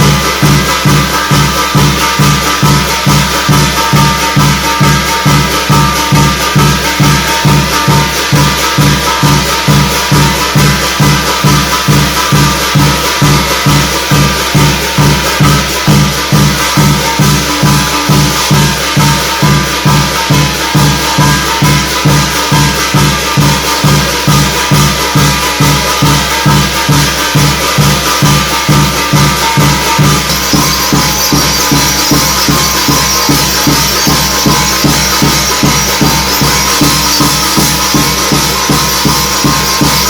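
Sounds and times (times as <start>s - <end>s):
drum beating fast pulse: 0.0s - 40.0s
jingling metal percussion: 0.0s - 40.0s.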